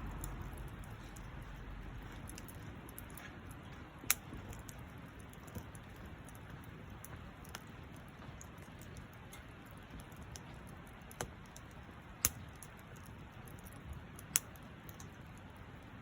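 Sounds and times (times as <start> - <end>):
campfire crackling: 0.0 - 16.0
fire popping: 0.0 - 16.0.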